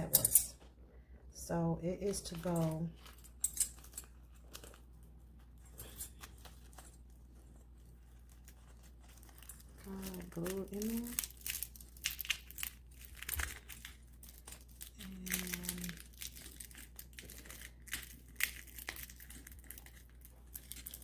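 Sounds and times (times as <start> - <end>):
plastic sheet crackling: 2.0 - 21.0.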